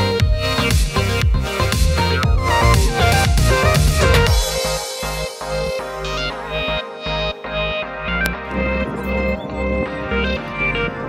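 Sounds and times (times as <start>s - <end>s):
background music with bass beat: 0.0s - 11.0s.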